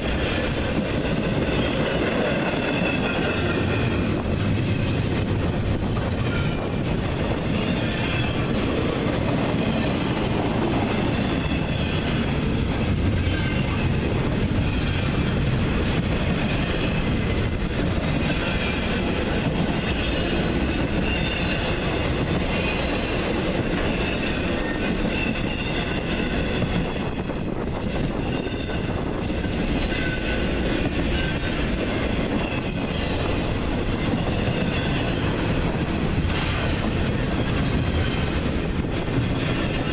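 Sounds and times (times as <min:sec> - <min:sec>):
train wheels rumbling and clattering: 0:00.0 - 0:39.9.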